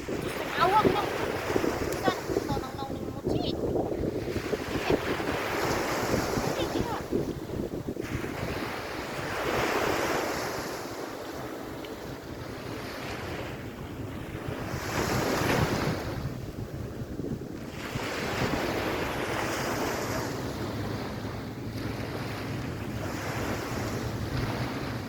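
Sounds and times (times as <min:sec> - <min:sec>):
waves washing onto sandy beach: 0:00.0 - 0:25.0
wind buffeting microphone: 0:00.0 - 0:25.0.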